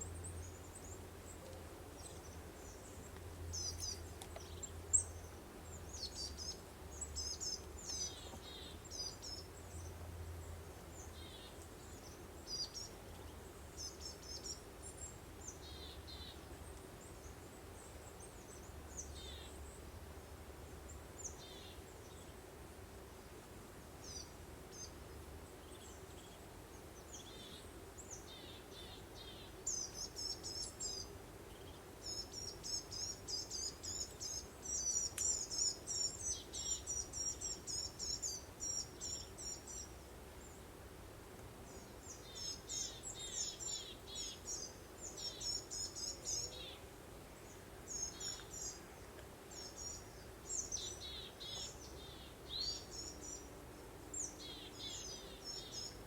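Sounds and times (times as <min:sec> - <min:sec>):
songbird chirping: 0:00.0 - 0:19.9, 0:24.0 - 0:56.0
faint background hum and hiss: 0:00.0 - 0:56.0.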